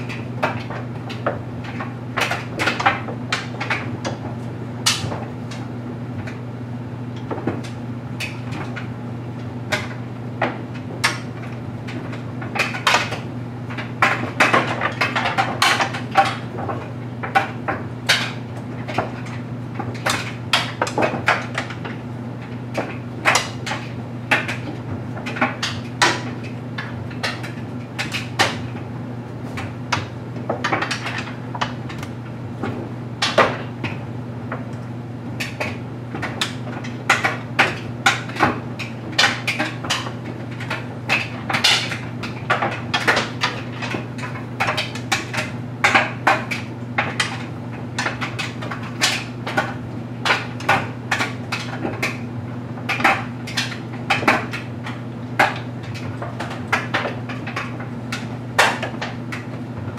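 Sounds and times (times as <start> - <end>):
clothes dryer drum humming: 0.0 - 59.9
toys knocking in dryer drum: 7.2 - 34.8, 35.4 - 59.9.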